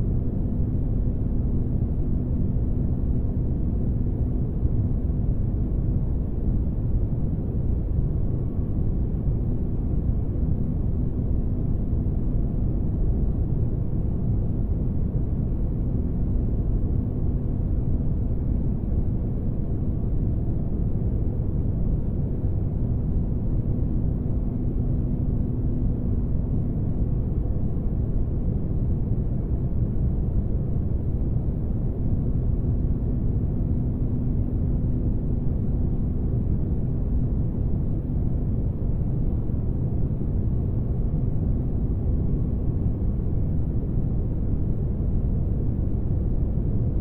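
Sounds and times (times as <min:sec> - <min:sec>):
faint constant hum: 0:00.0 - 0:47.0.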